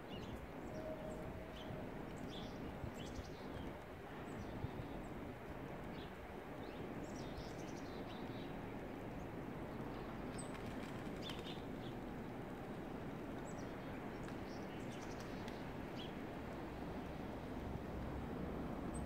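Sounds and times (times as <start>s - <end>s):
songbirds chirping: 0.0s - 16.3s
outdoor background noise: 0.0s - 19.0s.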